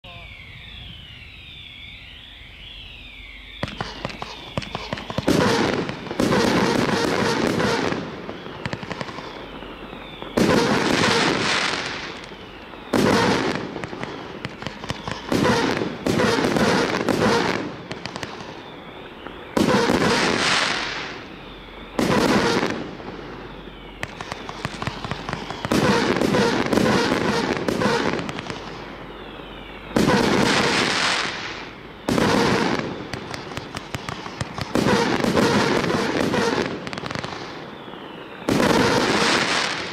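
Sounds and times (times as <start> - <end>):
firework shots launching: 3.6 - 29.1, 29.9 - 39.9
firework crackling: 3.6 - 39.9.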